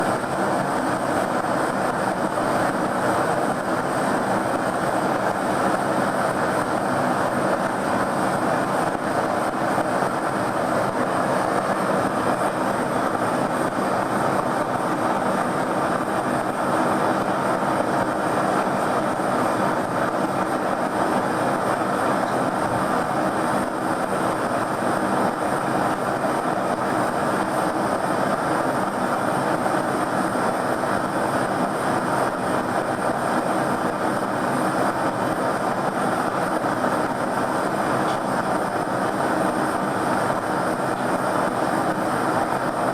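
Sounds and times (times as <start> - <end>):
gas torch flame rushing: 0.0 - 42.9.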